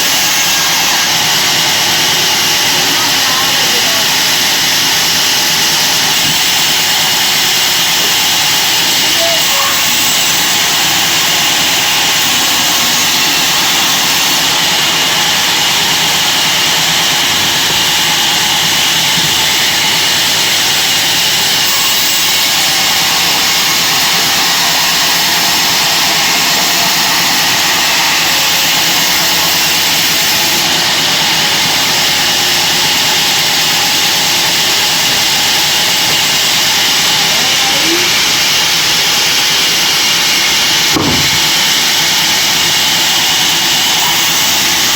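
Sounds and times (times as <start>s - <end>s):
band saw running: 0.0s - 44.9s.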